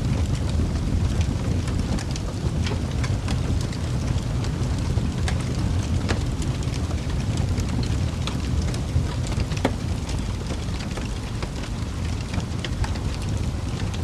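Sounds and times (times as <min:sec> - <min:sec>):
wood fire burning: 0:00.0 - 0:14.0.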